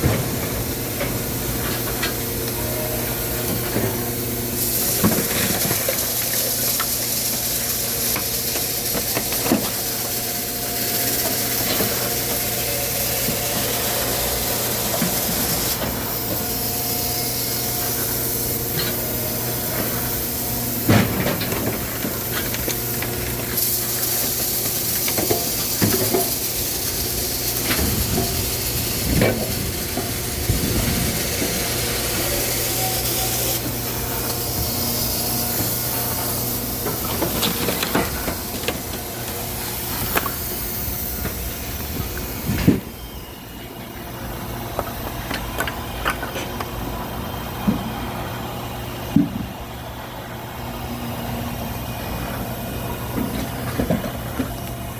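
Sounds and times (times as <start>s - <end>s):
high hiss: 0.0s - 45.2s
machinery humming: 0.0s - 54.9s.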